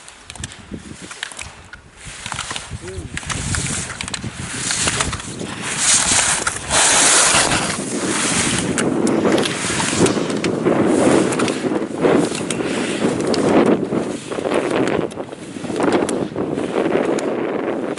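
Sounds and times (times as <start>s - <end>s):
skis scraping over snow: 0.0s - 17.9s
wind rushing over microphone: 0.4s - 17.9s.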